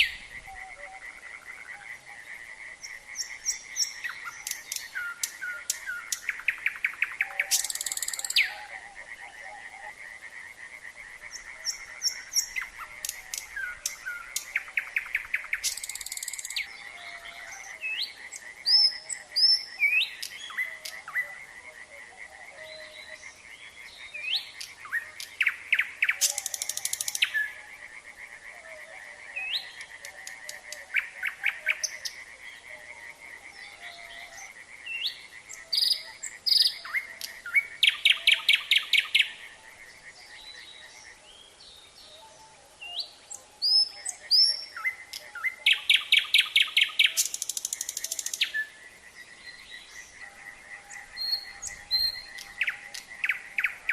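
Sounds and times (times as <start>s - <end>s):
nightingale singing: 0.0s - 10.3s, 10.9s - 53.9s
chorus of frogs: 0.0s - 53.9s.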